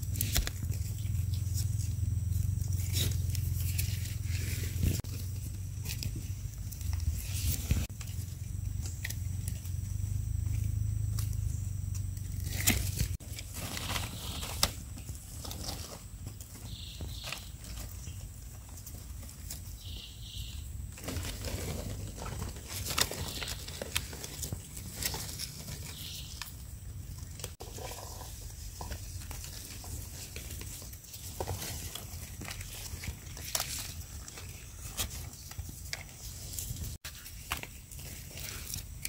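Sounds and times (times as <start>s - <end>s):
rustling and snapping of dry leaves: 0.0s - 39.0s.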